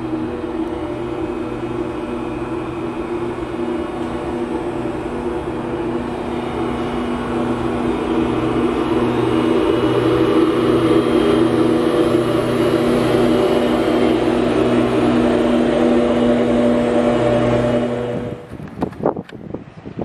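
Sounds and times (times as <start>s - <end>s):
low pulsing: 0.0s - 18.8s
electric locomotive humming: 0.0s - 20.0s.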